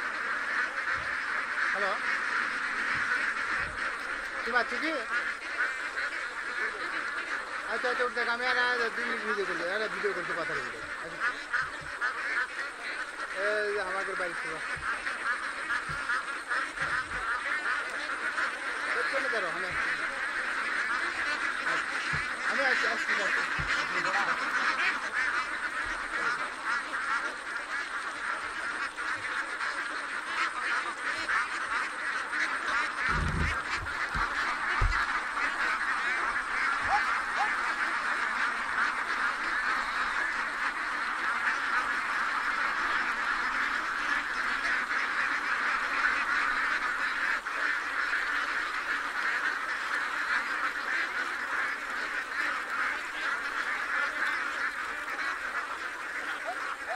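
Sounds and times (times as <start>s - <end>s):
flock of ducks quacking: 0.0s - 56.9s.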